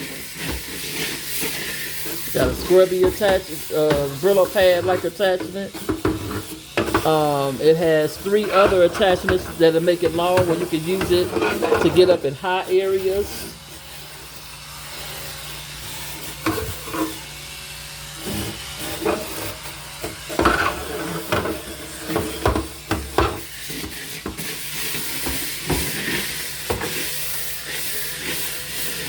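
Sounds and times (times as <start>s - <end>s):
electric scrub brush running: 0.0s - 29.0s.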